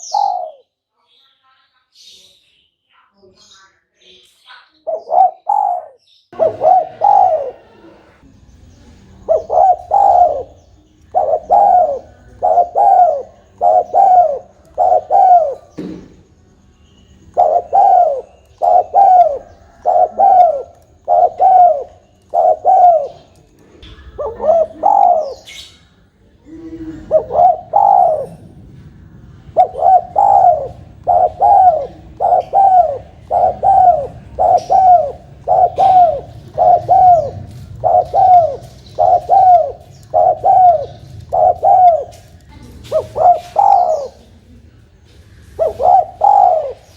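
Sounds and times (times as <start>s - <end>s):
dove cooing: 0.0s - 0.7s, 4.8s - 8.2s, 9.1s - 16.2s, 17.2s - 46.9s.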